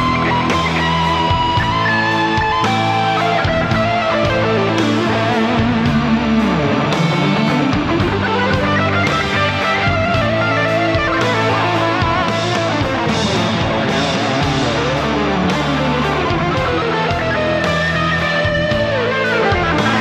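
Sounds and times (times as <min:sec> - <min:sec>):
electric guitar lead solo: 0:00.0 - 0:20.0
low bass notes: 0:00.0 - 0:20.0
steady drum beat: 0:00.0 - 0:20.0.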